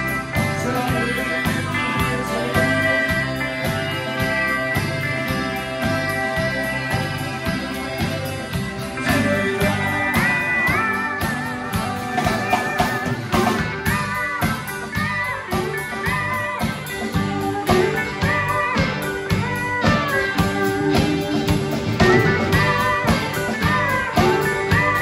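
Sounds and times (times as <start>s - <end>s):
electric guitar: 0.0s - 25.0s
pedal steel guitar: 0.0s - 25.0s
steady drum beat: 0.0s - 25.0s.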